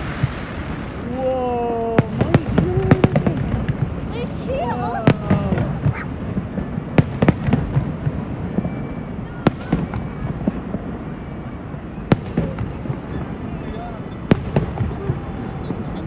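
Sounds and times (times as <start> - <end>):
fireworks banging: 0.0 - 11.1, 12.0 - 16.0
fireworks crackling: 0.0 - 16.0.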